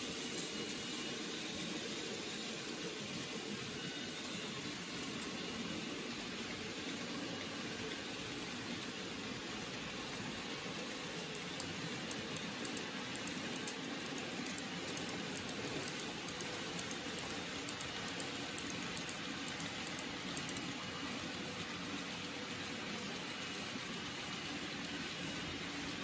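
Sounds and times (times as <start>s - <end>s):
model train whirr: 0.0s - 26.0s
wheels clicking on rails: 0.0s - 26.0s.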